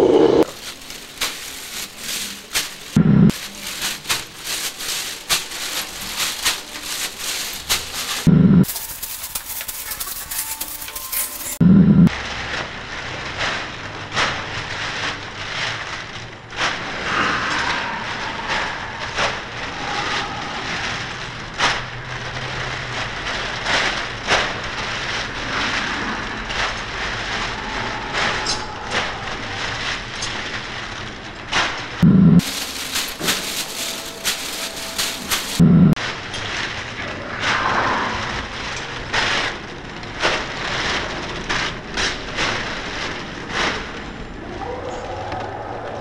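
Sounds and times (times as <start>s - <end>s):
plastic bags rustling: 0.1s - 45.6s.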